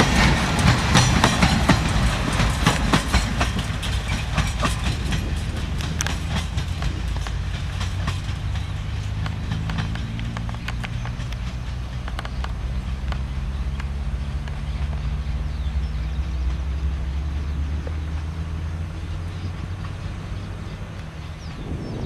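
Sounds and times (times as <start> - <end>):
train wheels clacking over rail joints: 0.0 - 21.7
low train rumble: 0.0 - 22.0.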